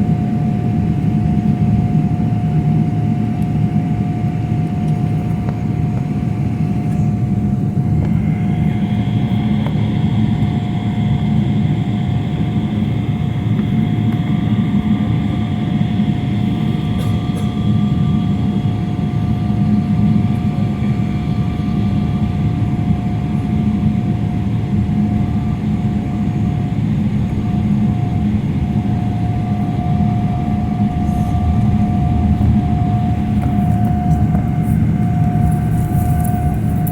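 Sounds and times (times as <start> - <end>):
airliner cabin low rumble: 0.0 - 36.9
jet engine whine: 0.0 - 36.9.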